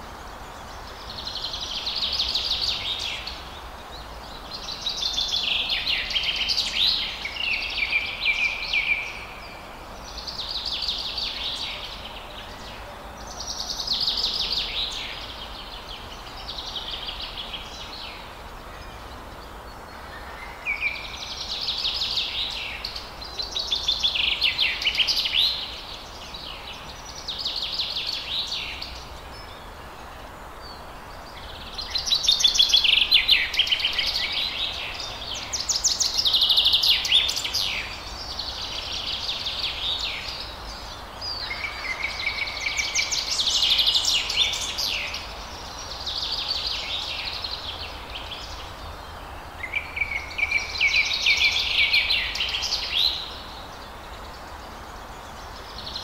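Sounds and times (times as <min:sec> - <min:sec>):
songbirds singing: 0:00.0 - 0:56.0
steady background hiss: 0:00.0 - 0:56.0.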